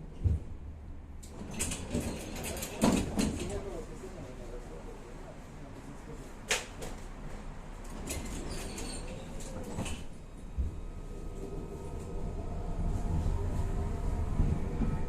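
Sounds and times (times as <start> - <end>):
tram running rumble: 0.0 - 15.0.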